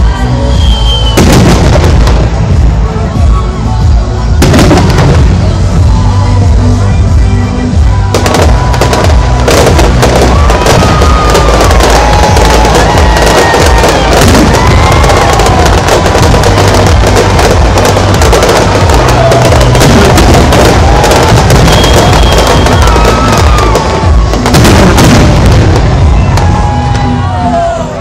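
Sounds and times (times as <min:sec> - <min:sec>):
fireworks bangs and crackling: 0:00.0 - 0:27.7.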